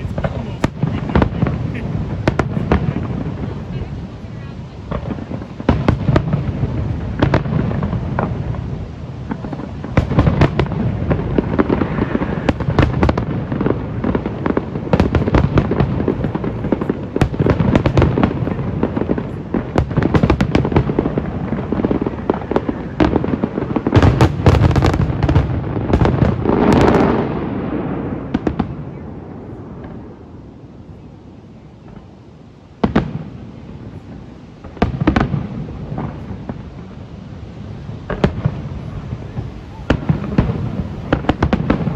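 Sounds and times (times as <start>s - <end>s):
fireworks booming and crackling: 0.0s - 41.9s.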